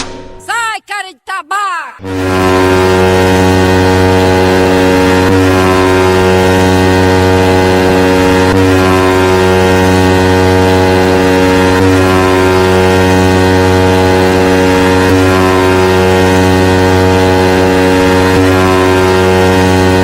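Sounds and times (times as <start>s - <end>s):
buzzing synthesizer drone: 2.0s - 20.0s.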